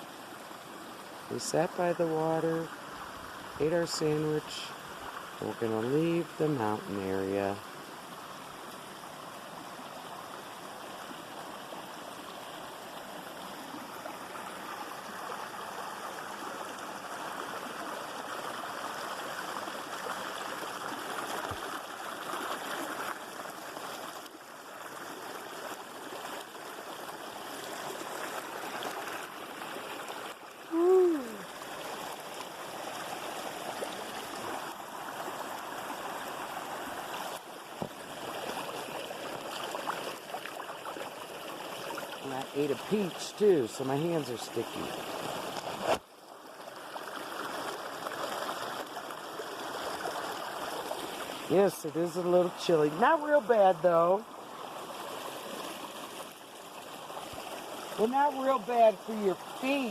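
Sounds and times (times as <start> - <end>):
creek running over rocks: 0.0 - 59.9.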